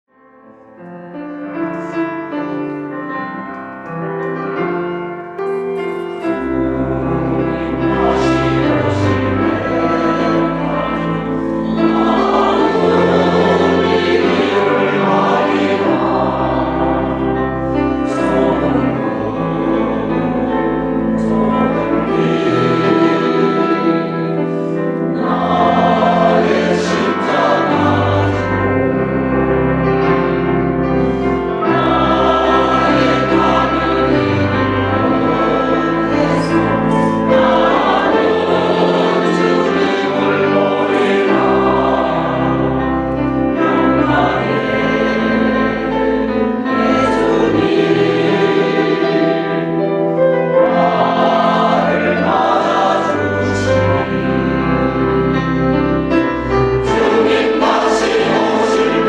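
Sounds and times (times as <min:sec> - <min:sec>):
church choir singing a hymn: 0:00.5 - 0:59.0
instrumental accompaniment: 0:00.5 - 0:59.0.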